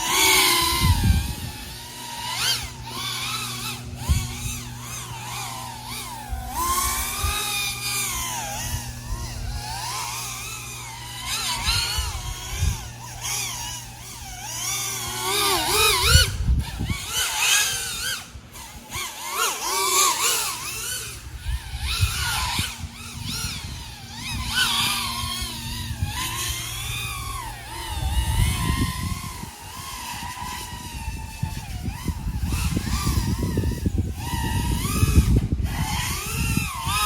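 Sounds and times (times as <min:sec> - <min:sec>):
drone motors whining: 0:00.0 - 0:37.0
steady low hum: 0:00.0 - 0:37.0.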